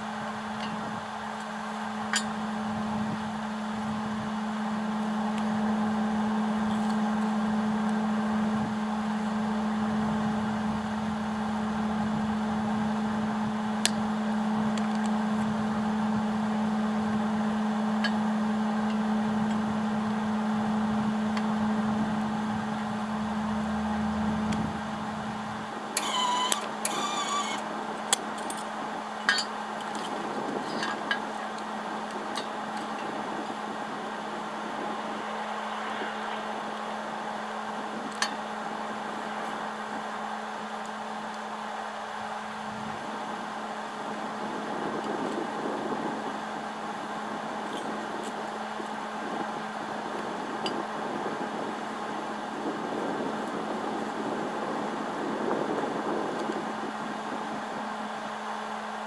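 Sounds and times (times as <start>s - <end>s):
machine humming and hissing: 0.0s - 47.5s.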